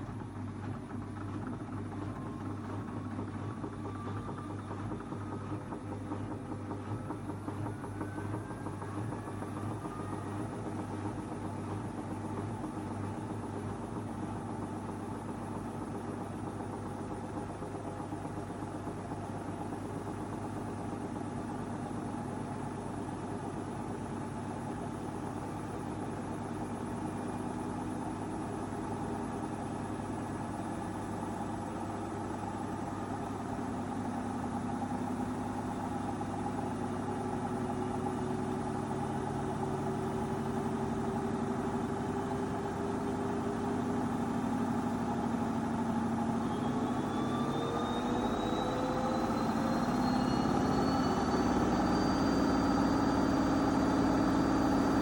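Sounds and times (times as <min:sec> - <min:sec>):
washing machine running: 0:00.0 - 0:55.0
washing machine spin whine: 0:00.0 - 0:55.0.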